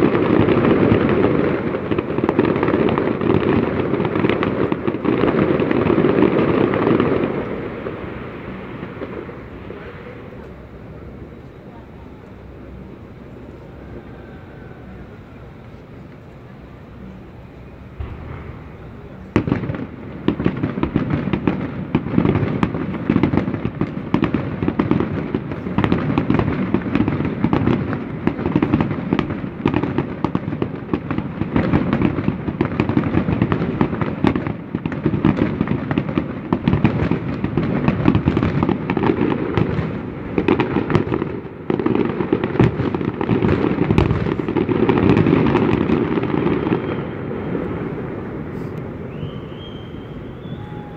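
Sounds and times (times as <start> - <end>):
fireworks bangs and crackles: 0.0 - 50.9.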